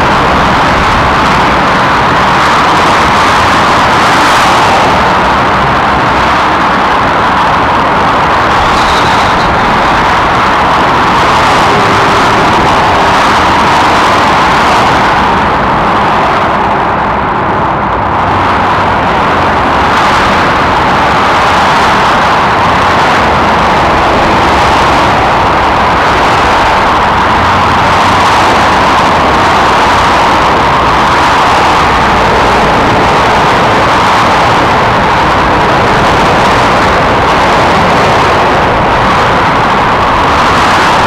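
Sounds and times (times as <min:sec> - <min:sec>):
motorway traffic roar: 0:00.0 - 0:41.0.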